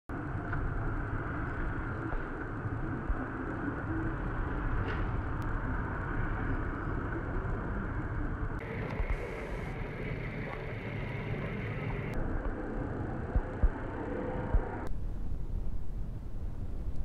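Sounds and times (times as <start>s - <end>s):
city background rumble: 0.1s - 17.0s.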